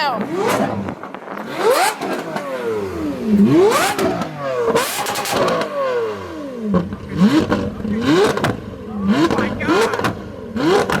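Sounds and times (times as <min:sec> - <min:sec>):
exhaust cracks: 0:00.0 - 0:11.0
car engine revving hard: 0:00.1 - 0:11.0.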